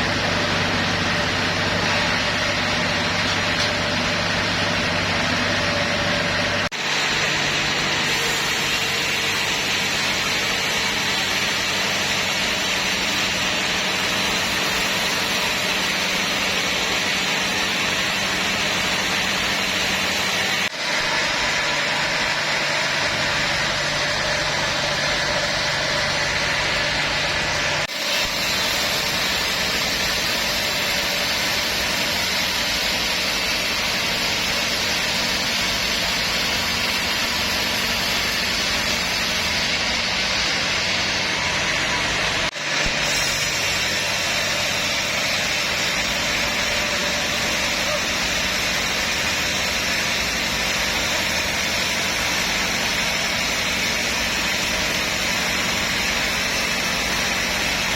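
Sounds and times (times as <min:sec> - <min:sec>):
sawmill machinery humming and hissing: 0:00.0 - 0:57.9.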